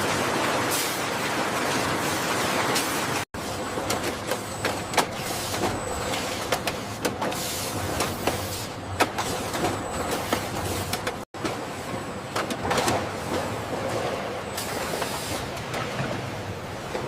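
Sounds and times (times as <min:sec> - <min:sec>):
factory machinery humming: 0:00.0 - 0:17.0.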